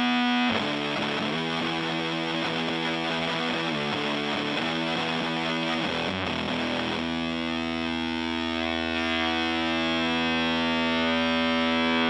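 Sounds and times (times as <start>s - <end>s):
fuzzed electric guitar: 0.0s - 12.0s.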